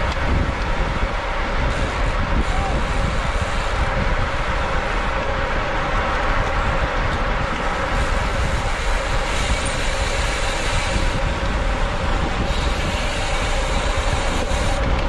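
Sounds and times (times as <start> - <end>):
tyres humming on road: 0.0 - 15.0
wind rushing over microphone: 0.0 - 15.0.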